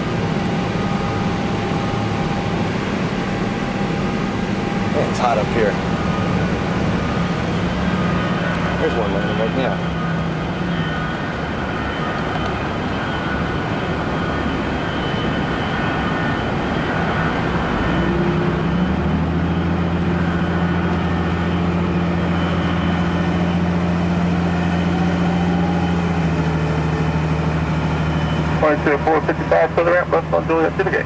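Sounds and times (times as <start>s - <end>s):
machinery drone: 0.0s - 31.0s.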